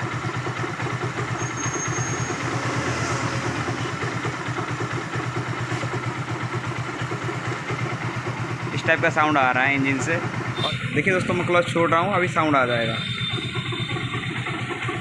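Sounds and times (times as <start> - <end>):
motorcycle engine idling: 0.0 - 15.0
odd mechanical noise from engine: 0.0 - 15.0.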